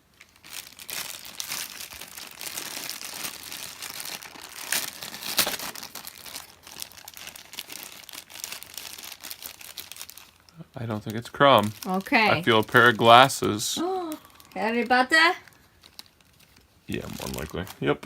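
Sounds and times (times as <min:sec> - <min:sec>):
foil bag crinkling: 0:00.0 - 0:18.0.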